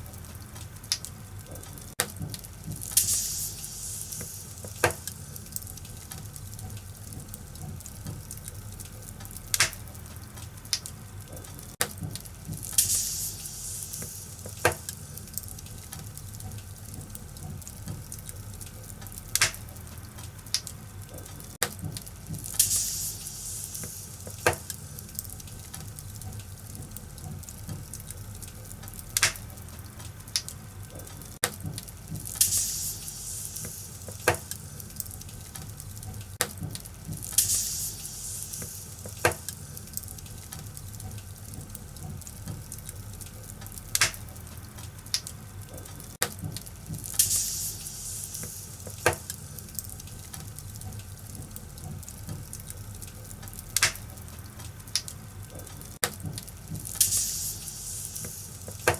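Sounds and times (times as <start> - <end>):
fire hissing: 0.0 - 58.9
fire pops: 0.0 - 58.9
wood fire crackling: 0.0 - 58.9.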